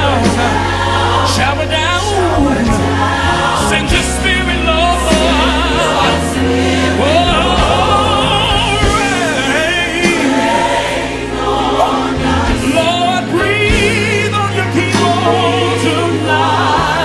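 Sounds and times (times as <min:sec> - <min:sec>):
bass and keyboard chords: 0:00.0 - 0:17.0
gospel choir singing: 0:00.0 - 0:17.0
lead vocal singing runs: 0:00.0 - 0:17.0.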